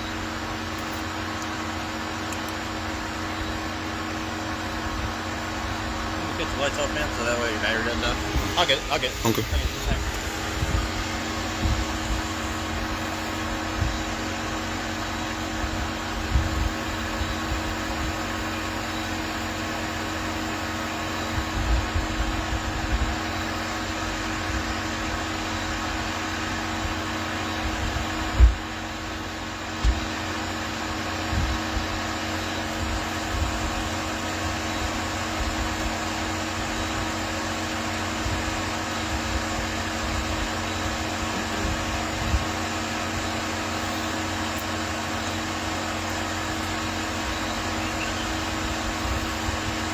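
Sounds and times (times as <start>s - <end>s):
fan-like mechanical hum: 0.0s - 49.9s.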